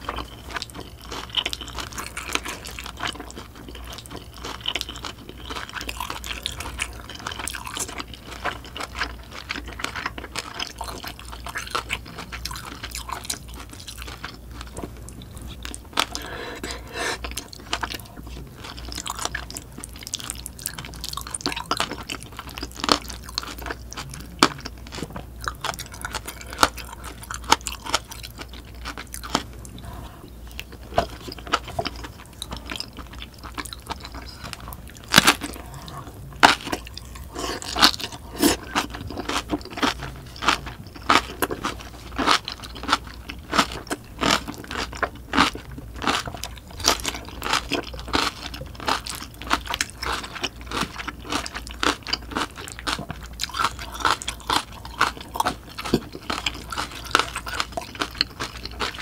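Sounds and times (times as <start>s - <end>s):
person chewing with mouth smacks: 0.0s - 59.0s.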